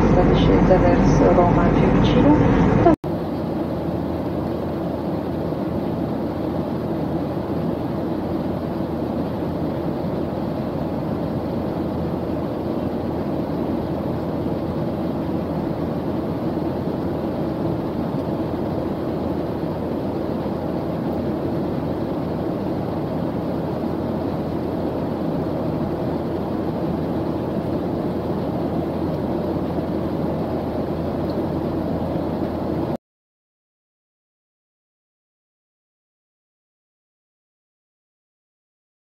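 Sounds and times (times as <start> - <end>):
jet airliner cabin noise: 0.0 - 33.0.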